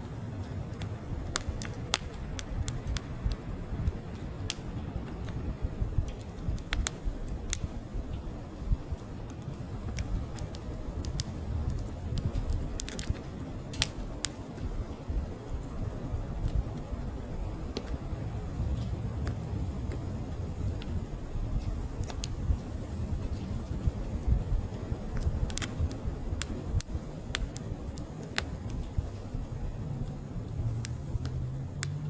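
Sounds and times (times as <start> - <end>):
low rumble of flame: 0.0 - 32.0
wood fire crackling and popping: 0.0 - 32.0.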